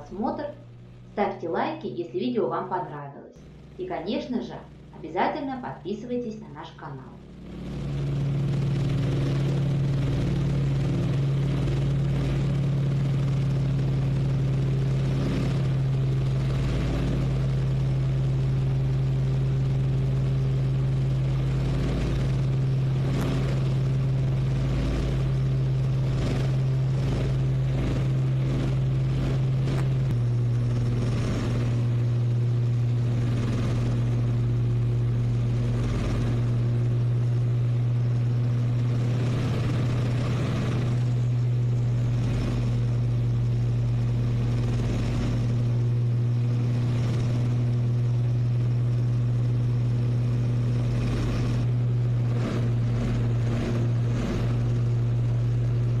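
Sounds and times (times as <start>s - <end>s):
aircraft piston engines droning: 0.0s - 56.0s
air rushing over canopy: 7.2s - 56.0s.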